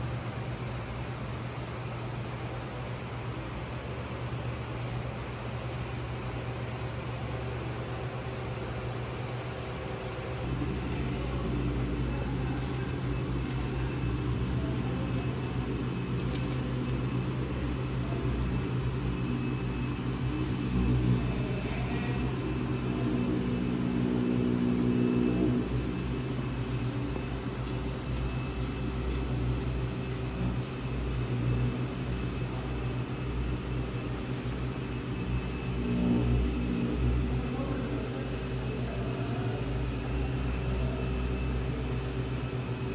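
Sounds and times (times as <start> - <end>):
low mechanical drone with hum: 0.0 - 42.9.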